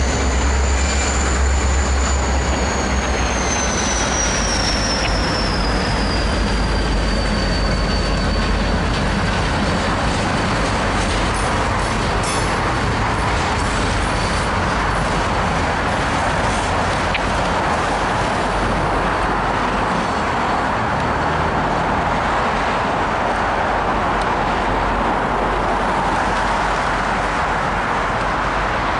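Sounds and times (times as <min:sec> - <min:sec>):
city traffic noise: 0:00.0 - 0:28.9
freight train rumbling: 0:00.0 - 0:28.9.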